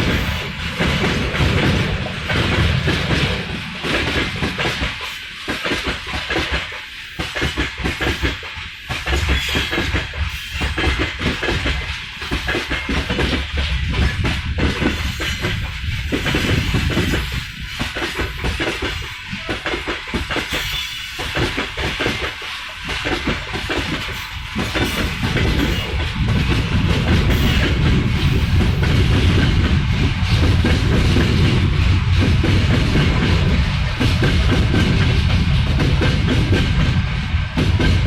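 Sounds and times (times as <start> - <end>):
train wheels clattering on rails: 0.0 - 38.0.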